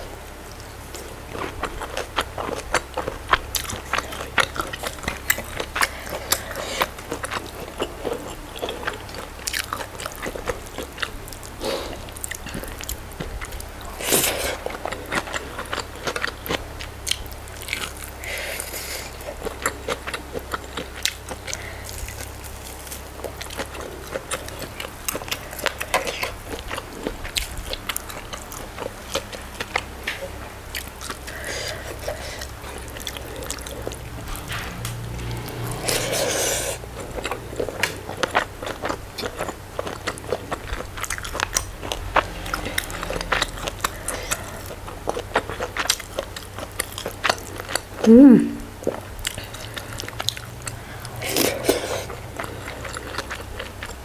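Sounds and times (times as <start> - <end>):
close chewing with wet mouth clicks: 0.5 - 54.0.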